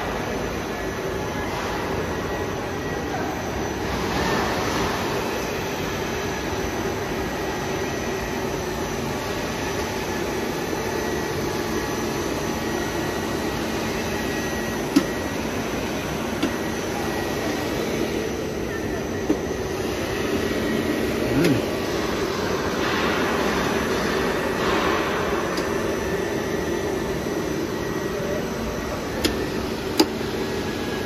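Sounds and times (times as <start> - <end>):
machinery hum and whir: 0.0 - 31.0.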